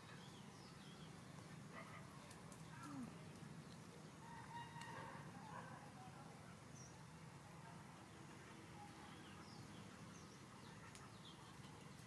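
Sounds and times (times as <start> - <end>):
small birds chirping: 0.0 - 4.4, 5.4 - 12.0.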